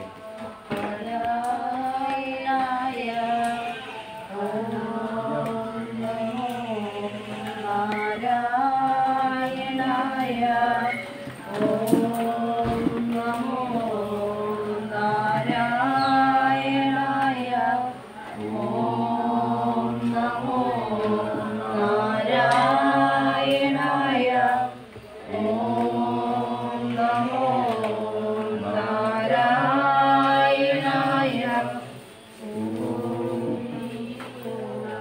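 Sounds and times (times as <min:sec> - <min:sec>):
voices chanting devotional song: 0:00.0 - 0:35.0.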